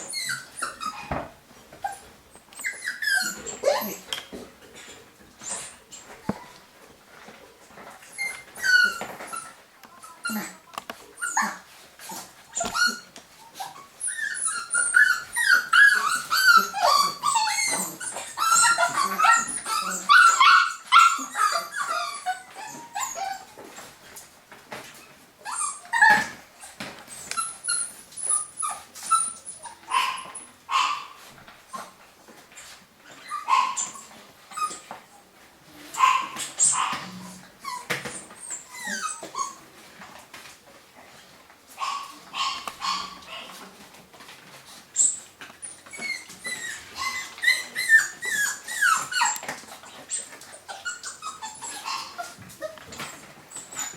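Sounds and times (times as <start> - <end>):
puppies whimpering and yipping: 0.0 - 4.1, 7.7 - 24.2, 24.8 - 40.6, 41.7 - 53.9.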